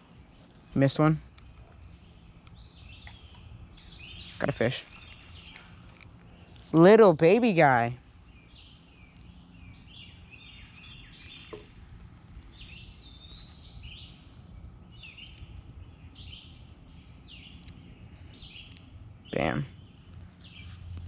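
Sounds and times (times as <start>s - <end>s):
low outdoor rumble: 0.0s - 21.0s
songbird chirping and warbling: 0.6s - 21.0s.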